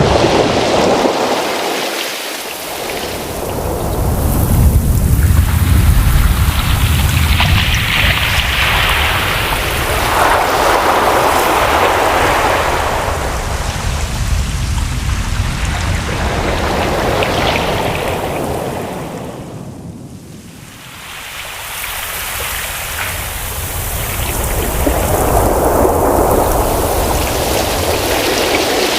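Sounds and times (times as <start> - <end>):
ocean waves breaking: 0.0 - 28.9.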